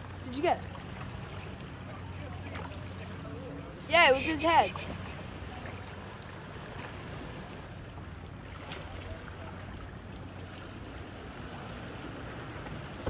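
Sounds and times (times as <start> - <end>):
water lapping around a kayak: 0.0 - 13.0.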